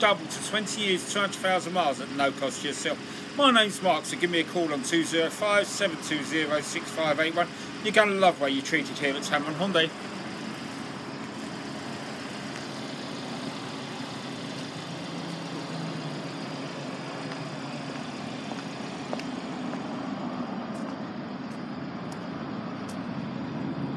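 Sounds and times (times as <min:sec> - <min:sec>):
low outdoor hum: 0:00.0 - 0:23.9.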